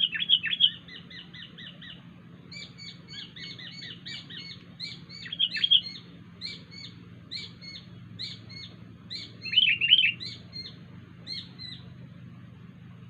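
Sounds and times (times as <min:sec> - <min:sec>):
bird chirping: 0:00.0 - 0:12.6.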